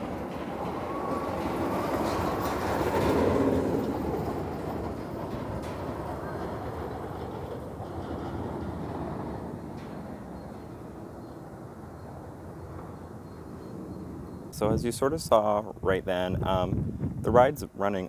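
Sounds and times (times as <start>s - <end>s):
roller coaster rumbling on rails: 0.0s - 17.4s.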